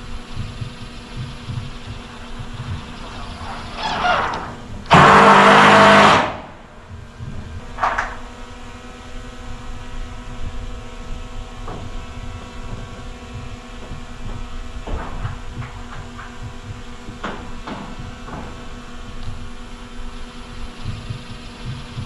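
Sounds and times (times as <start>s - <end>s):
power tool motor running: 0.0s - 22.0s
steady hum: 0.0s - 22.0s.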